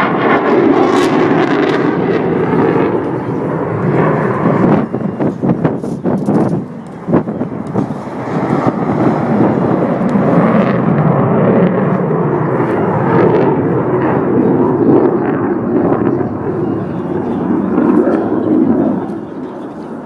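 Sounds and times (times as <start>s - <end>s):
plane flying by: 0.0s - 20.0s.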